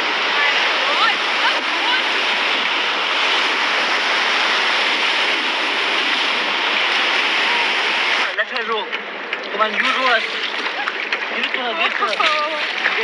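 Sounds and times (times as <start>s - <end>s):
fast-flowing river rapids: 0.0s - 8.4s, 9.6s - 13.0s.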